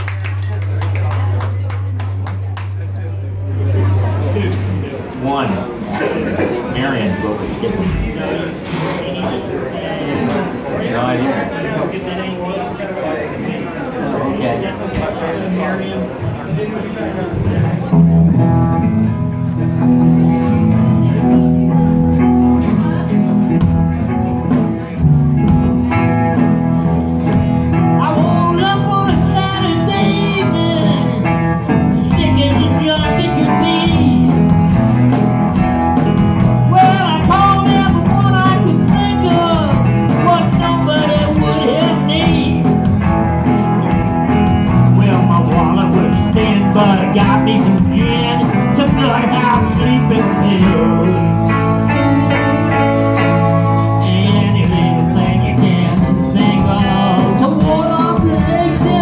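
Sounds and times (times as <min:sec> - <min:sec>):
live rock band playing: 0:00.0 - 0:06.7, 0:17.4 - 0:59.0.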